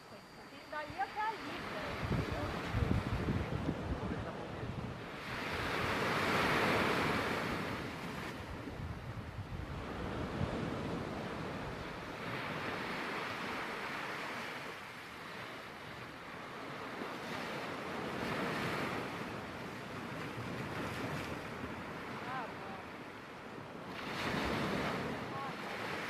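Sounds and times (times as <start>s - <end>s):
sea surf washing: 0.0s - 26.0s
wind on microphone: 0.0s - 26.0s.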